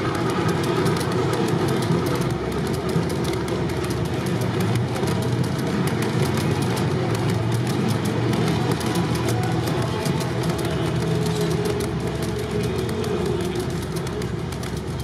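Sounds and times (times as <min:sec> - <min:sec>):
model train cars rolling: 0:00.0 - 0:15.0
wheel clicks over rail joints: 0:00.0 - 0:15.0.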